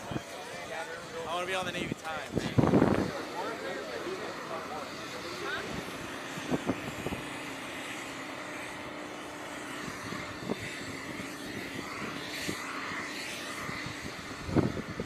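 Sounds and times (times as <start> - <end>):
steady mechanical drone: 0.0 - 15.0.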